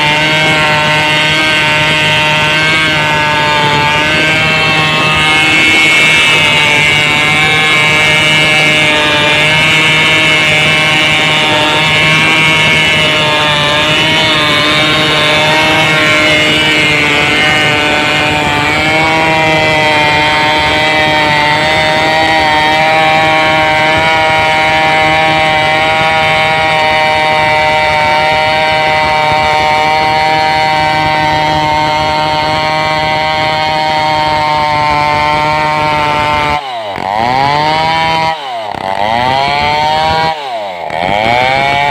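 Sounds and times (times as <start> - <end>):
chainsaw cutting a log: 0.0 - 41.9.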